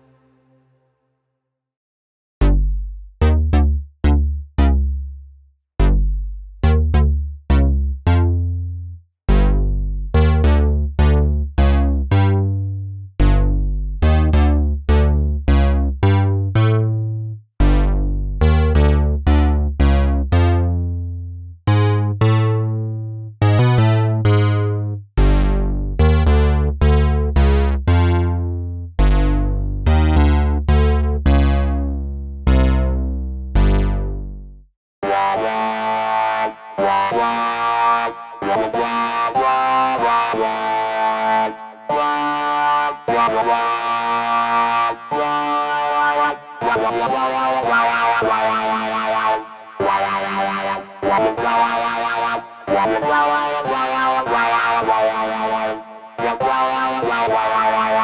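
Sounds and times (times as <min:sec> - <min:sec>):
synthesizer bass notes: 0:02.4 - 0:05.2, 0:05.8 - 0:58.0.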